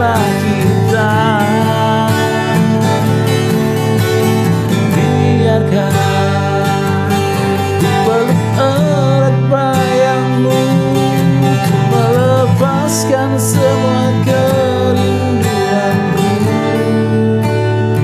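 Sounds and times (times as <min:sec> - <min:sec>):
man singing wordless melody: 0:00.0 - 0:03.6, 0:04.8 - 0:17.8
acoustic guitar strumming: 0:00.0 - 0:18.0.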